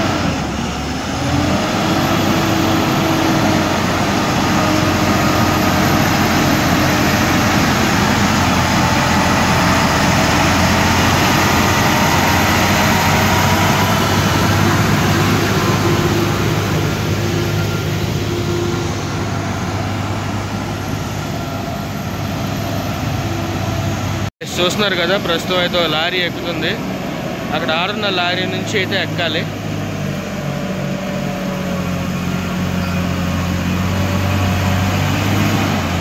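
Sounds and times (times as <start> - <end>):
lorry diesel engine under load: 0.0 - 36.0.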